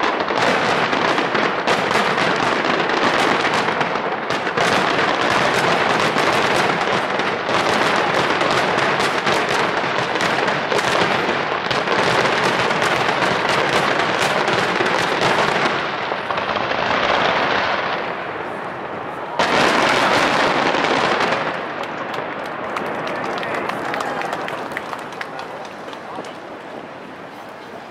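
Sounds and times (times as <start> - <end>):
fireworks bursting and crackling: 0.0 - 27.9.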